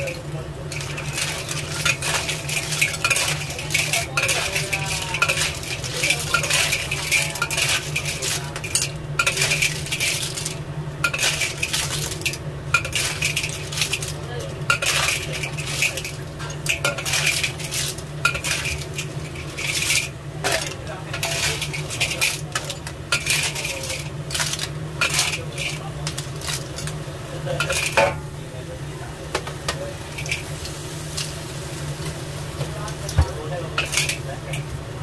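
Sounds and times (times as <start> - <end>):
spatula scraping a wok: 0.0 - 28.0.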